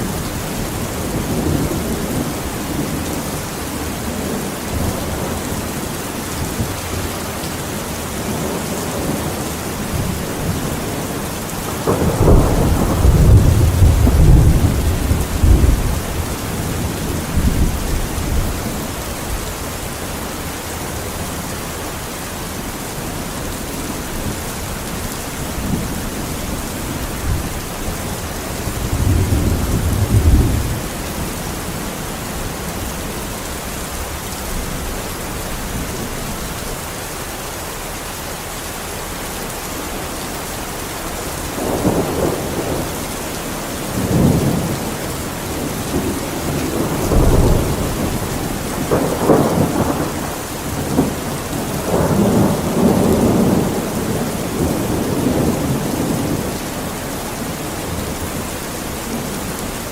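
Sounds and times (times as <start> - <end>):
thunder rumbling: 0.0 - 37.2, 41.2 - 59.9
steady rain falling: 0.0 - 59.9.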